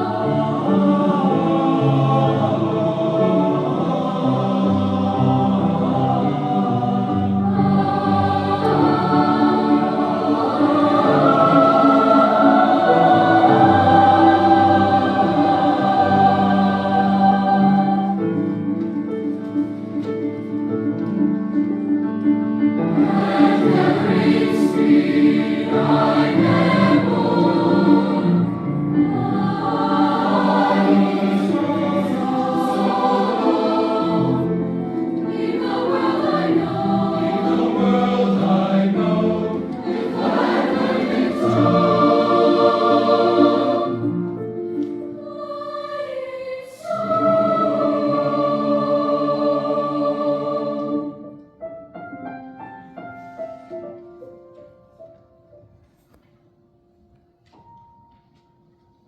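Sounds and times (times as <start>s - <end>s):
choir singing in parts: 0.0s - 51.6s.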